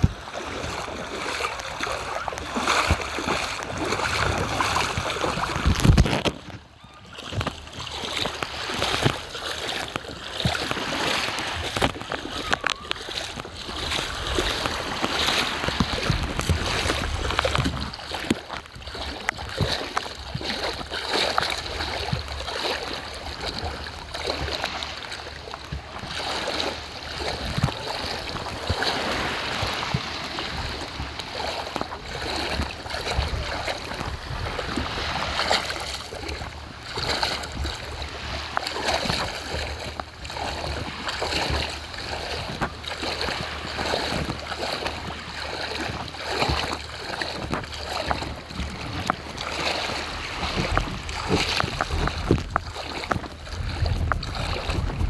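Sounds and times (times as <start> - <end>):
seawater splashing on beach: 0.0 - 6.6, 7.2 - 55.0
footsteps near water: 0.0 - 55.0.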